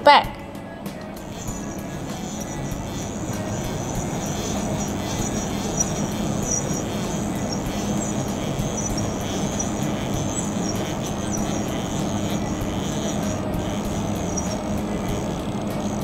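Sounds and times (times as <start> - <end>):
faint high whine: 1.0 - 16.0
milling machine mechanical hum: 1.0 - 16.0.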